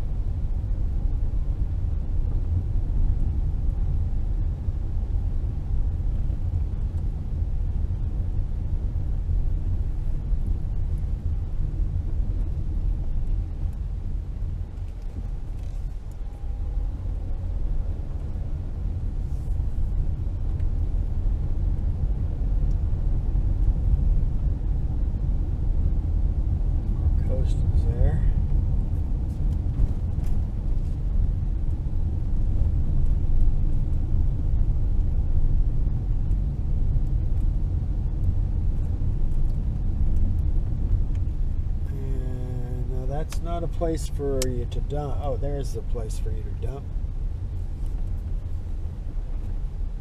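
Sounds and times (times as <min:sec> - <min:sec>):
road and engine rumble in car: 0:00.0 - 0:50.0.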